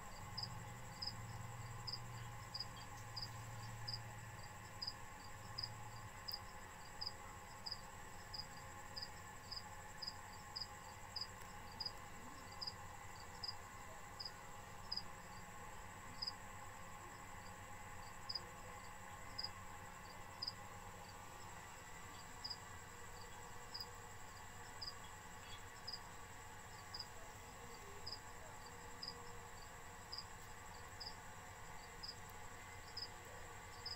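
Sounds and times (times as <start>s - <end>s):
cricket chirping: 0.0s - 33.9s.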